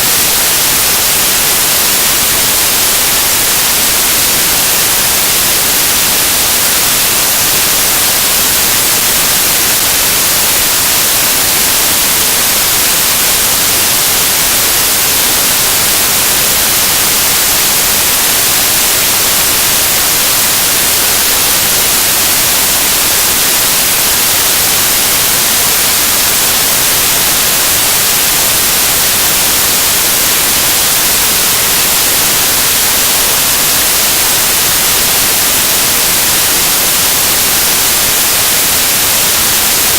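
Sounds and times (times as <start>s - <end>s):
steady static hiss: 0.0s - 39.9s.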